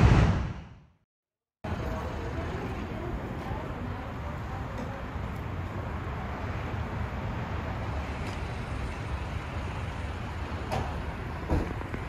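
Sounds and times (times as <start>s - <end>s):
low rumble of vehicle noise: 1.6s - 12.0s.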